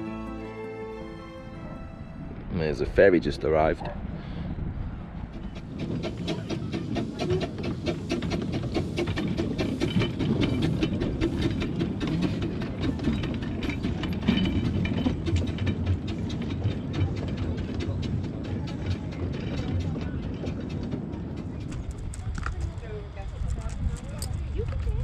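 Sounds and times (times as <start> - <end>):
low rumble of coaches: 0.0 - 25.0
train wheels clattering on track: 3.8 - 25.0.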